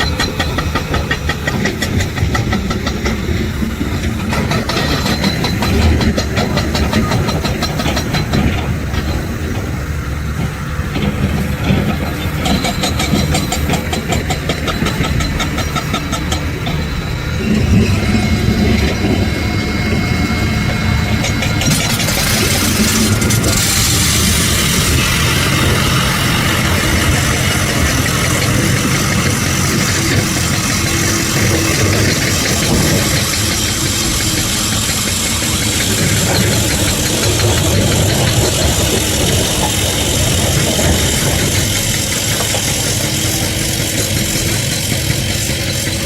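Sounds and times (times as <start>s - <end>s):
diesel construction machinery running: 0.0s - 46.0s.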